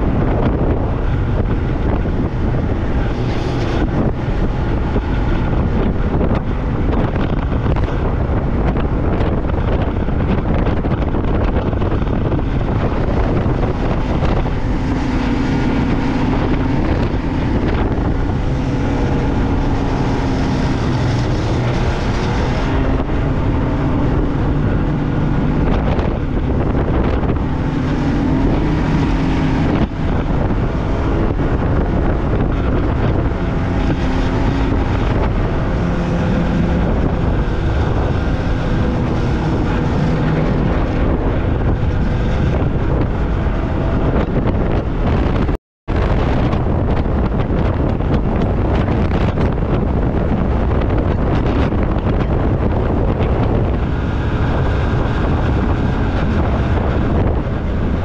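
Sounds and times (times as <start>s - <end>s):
snowmobile engine: 0.0s - 58.0s
wind noise on microphone: 0.0s - 58.0s.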